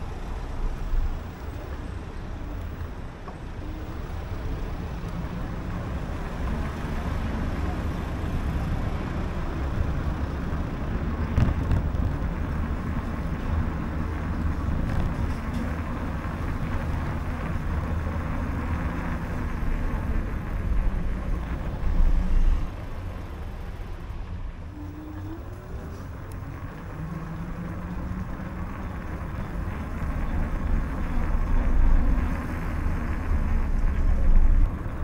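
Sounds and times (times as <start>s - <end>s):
city street traffic rumble: 0.0s - 35.0s.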